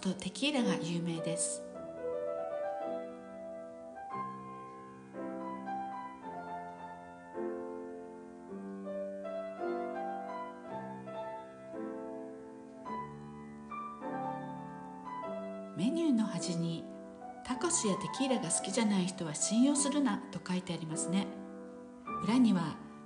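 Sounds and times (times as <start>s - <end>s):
gentle piano chords: 0.0s - 23.0s.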